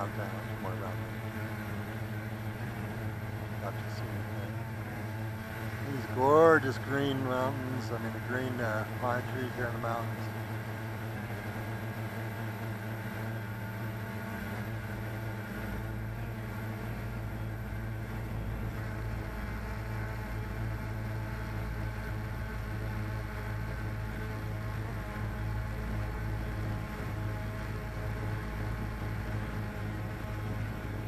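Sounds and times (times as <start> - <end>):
quadcopter propellers buzzing: 0.0 - 31.0.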